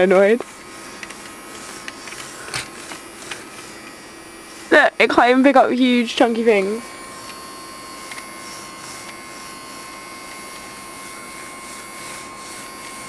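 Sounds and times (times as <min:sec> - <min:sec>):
small vacuum motor whining: 0:00.0 - 0:13.0.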